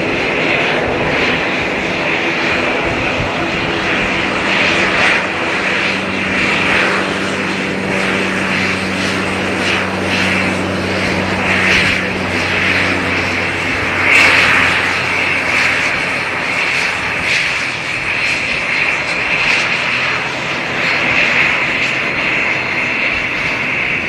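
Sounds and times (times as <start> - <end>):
aircraft engines humming: 0.0 - 24.0.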